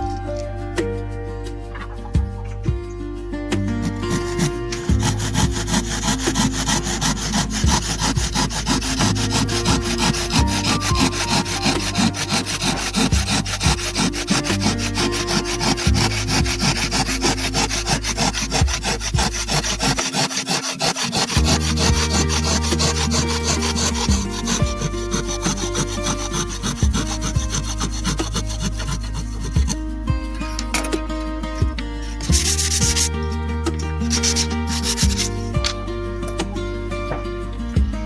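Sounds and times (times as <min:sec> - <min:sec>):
background music with bass: 0:00.0 - 0:38.0
handsaw cutting wood: 0:03.5 - 0:35.8.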